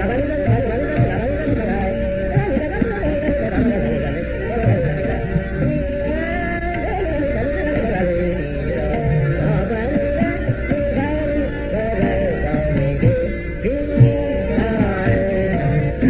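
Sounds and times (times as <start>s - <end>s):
sliding ornamented melody: 0.0s - 16.0s.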